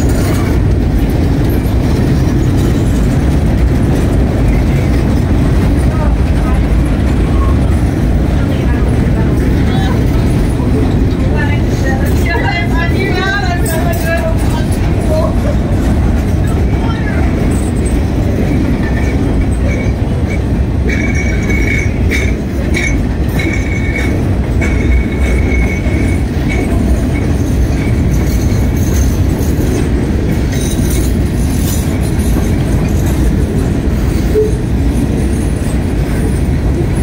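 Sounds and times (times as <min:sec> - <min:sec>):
steel train wheels rumbling on rail: 0:00.0 - 0:37.0.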